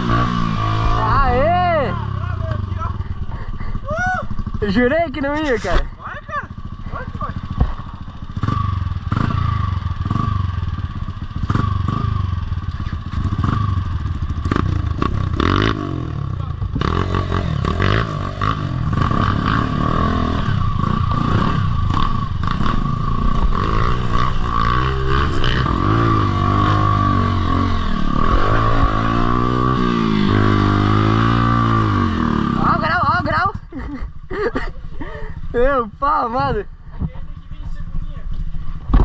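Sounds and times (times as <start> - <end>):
off-road motorcycle engine revving: 0.0 - 39.0.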